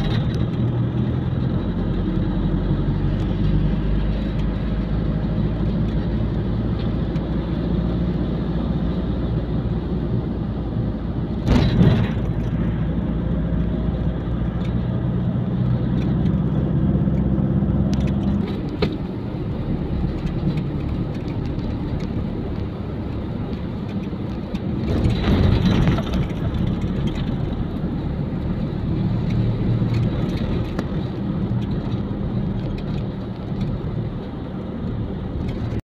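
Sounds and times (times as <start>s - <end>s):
car engine and road noise: 0.0s - 35.8s
loud rush of passing traffic: 0.0s - 35.8s.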